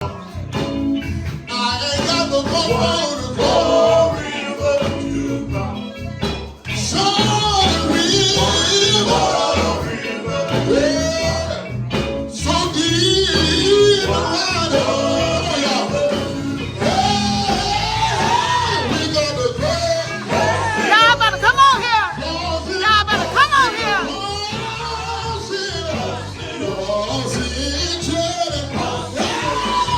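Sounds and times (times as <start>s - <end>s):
person singing over a band: 0.0s - 29.9s.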